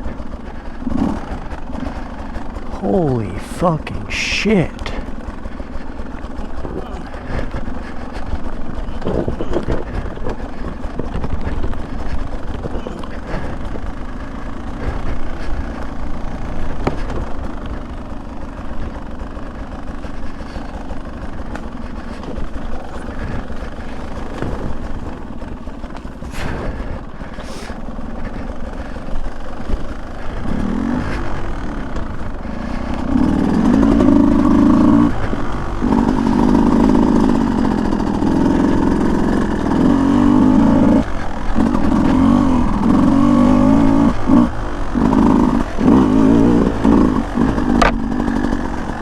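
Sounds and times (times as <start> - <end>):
dirt bike engine: 0.0 - 49.0.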